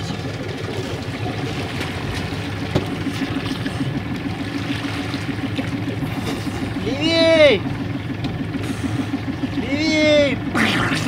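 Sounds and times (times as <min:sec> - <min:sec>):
diesel engine running at low revs: 0:00.0 - 0:11.0
water sloshing against hull: 0:00.0 - 0:11.0.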